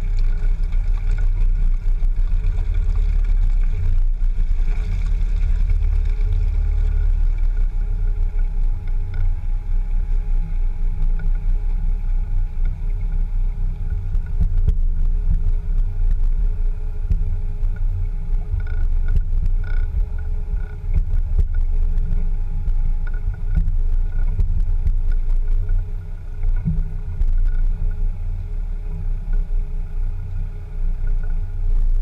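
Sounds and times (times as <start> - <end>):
engine rumble: 0.0 - 32.0.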